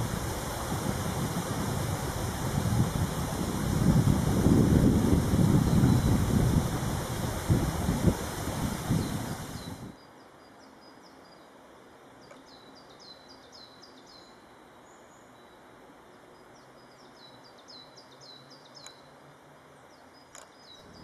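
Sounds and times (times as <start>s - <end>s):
faint steady hiss: 0.0s - 21.0s
songbird singing: 0.0s - 21.0s.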